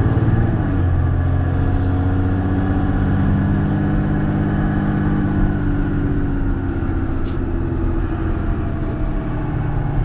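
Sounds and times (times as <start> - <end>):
bus engine: 0.0 - 10.0
road and body rumble: 0.0 - 10.0.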